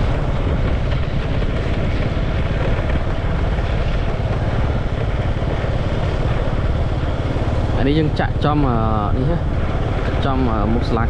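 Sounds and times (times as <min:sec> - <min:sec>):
vehicle rumble: 0:00.0 - 0:11.0
wind buffeting microphone: 0:00.0 - 0:11.0.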